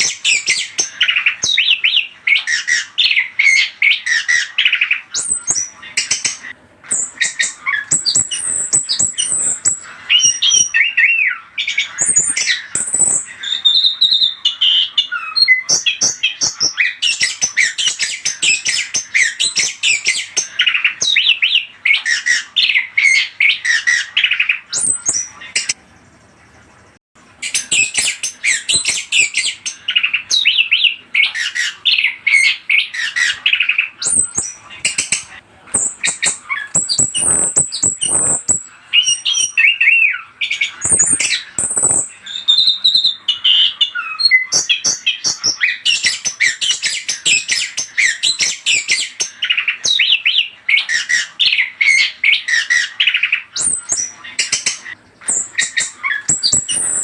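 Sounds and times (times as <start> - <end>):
thrush singing chattering song: 0.0 - 57.0.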